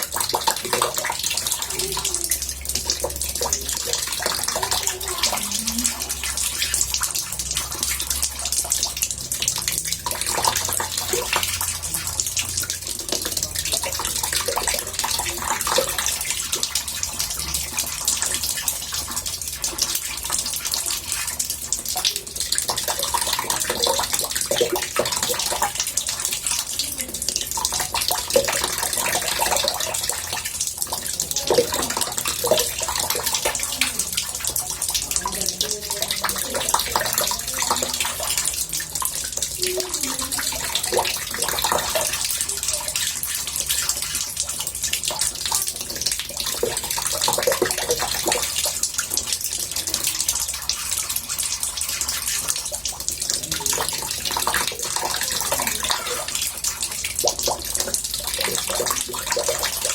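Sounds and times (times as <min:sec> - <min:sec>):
tap water pouring into bathtub: 0:00.0 - 0:59.9.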